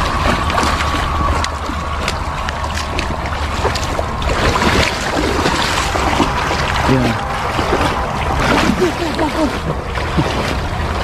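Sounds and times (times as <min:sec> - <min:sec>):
steady low rumble: 0:00.0 - 0:11.0
wading through shallow water: 0:00.0 - 0:11.0.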